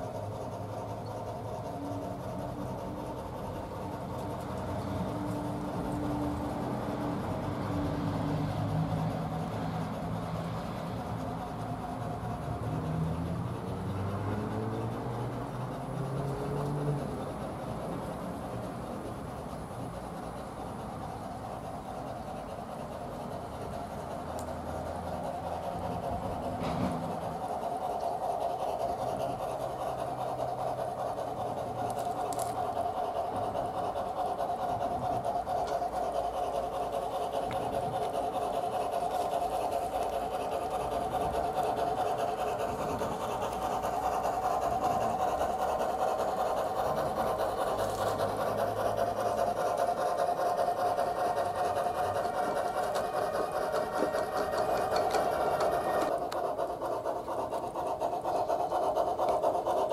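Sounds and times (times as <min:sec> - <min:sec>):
model train steam chuffing: 0:00.0 - 0:59.9.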